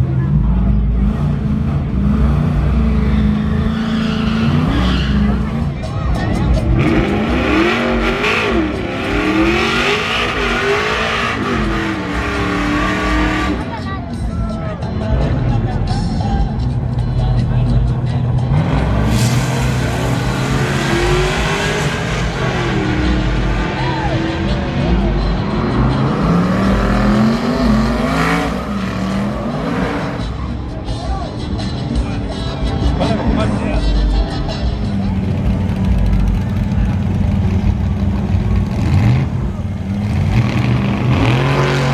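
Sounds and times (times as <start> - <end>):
truck engine revving: 0.0 - 14.3, 14.9 - 41.9.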